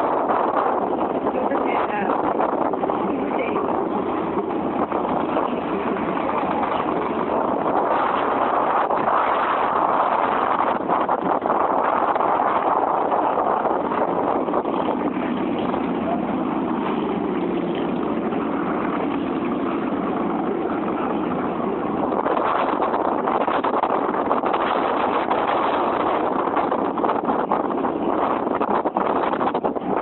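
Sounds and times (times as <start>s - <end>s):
wind buffeting crackle: 0.0s - 30.0s
wind noise on microphone: 0.0s - 30.0s.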